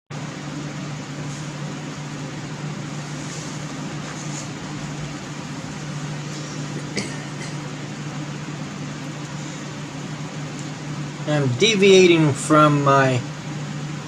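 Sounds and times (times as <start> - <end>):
ventilation fan humming: 0.1 - 14.0.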